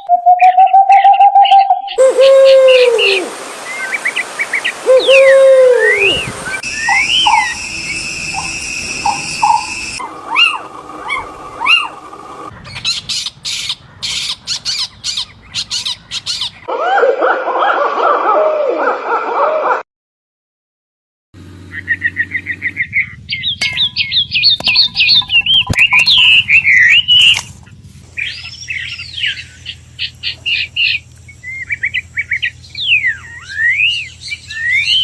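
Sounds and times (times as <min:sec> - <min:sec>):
birds whistling and chirping: 0:00.0 - 0:16.6, 0:21.7 - 0:27.5, 0:28.1 - 0:35.0
many birds chattering: 0:00.4 - 0:16.7, 0:21.7 - 0:35.0.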